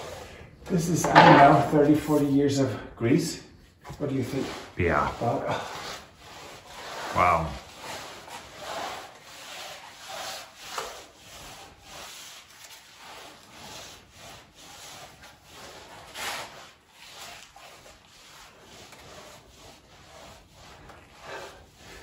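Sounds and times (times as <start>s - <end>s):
mop scrubbing stucco wall: 0.0s - 22.0s.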